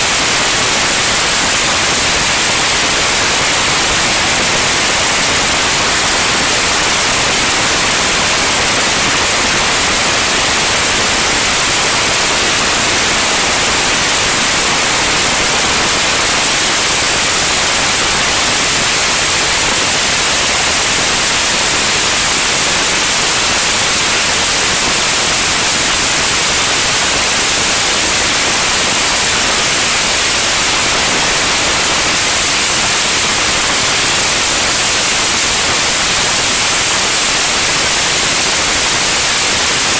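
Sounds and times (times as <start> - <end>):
loud steady hiss: 0.0 - 39.9.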